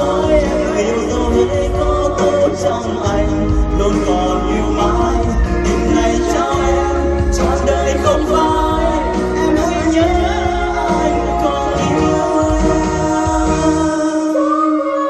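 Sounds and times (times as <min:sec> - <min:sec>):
pop ballad with band: 0:00.0 - 0:15.0.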